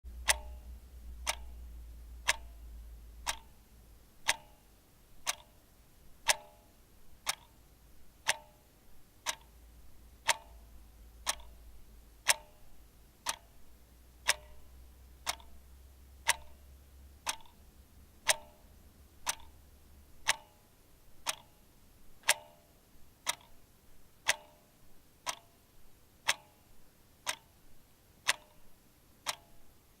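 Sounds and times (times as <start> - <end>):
clock ticking: 0.1 - 30.0.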